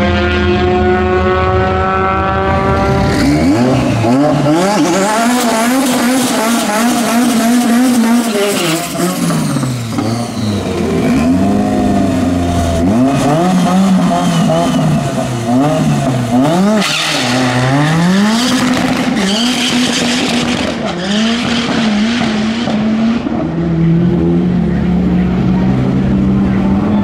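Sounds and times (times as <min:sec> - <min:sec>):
turbocharged car engine revving: 0:00.0 - 0:27.0.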